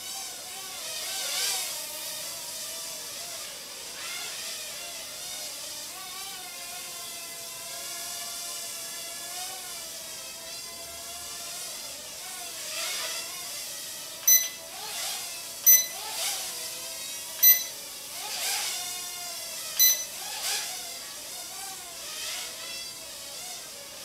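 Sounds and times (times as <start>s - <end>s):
toy drone propeller whine: 0.0s - 24.0s.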